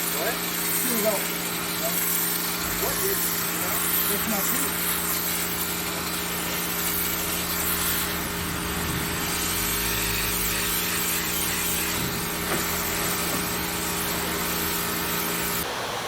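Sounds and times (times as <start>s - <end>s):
high-pressure water spray hissing: 0.0s - 16.0s
pressure washer motor drone: 0.0s - 16.0s.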